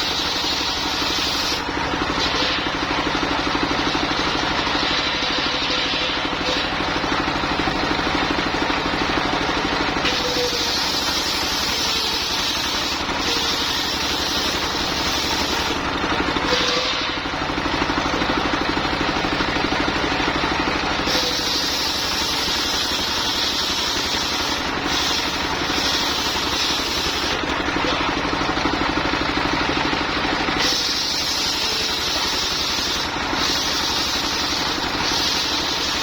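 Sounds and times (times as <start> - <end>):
circular sawmill sawing wood: 0.0 - 18.9, 20.1 - 36.0
motor knocking: 0.0 - 36.0.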